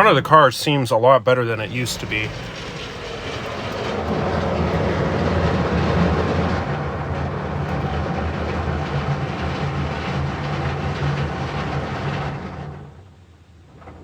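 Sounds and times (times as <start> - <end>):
motor hum: 1.6 - 12.9
spinning cloth brushes rumbling: 1.6 - 13.0.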